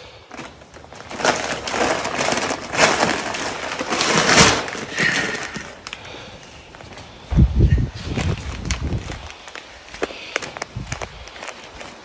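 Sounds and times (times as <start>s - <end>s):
feed bag crinkling and rustling: 0.0s - 12.0s.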